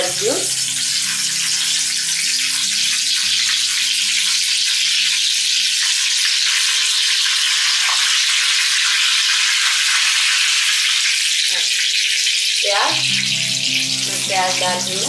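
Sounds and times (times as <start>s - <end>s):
leaves and seeds sizzling in oil: 0.0s - 15.0s.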